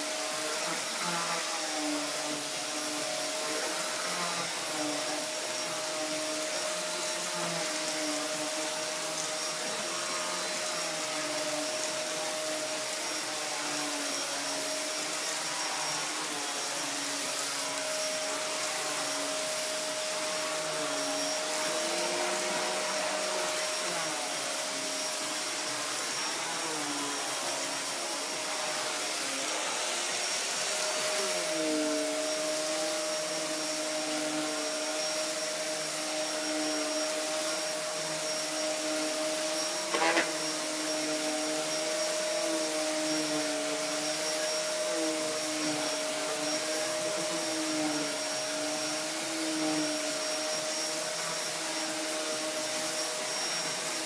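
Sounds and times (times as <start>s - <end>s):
vacuum cleaner whine: 0.0s - 54.0s.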